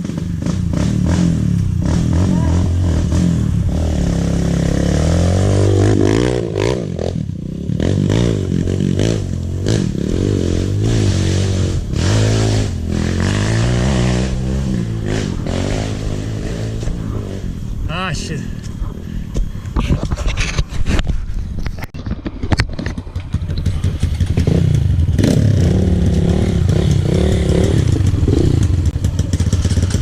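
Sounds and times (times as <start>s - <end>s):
dirt bike engine revving: 0.0s - 18.4s, 22.9s - 30.0s.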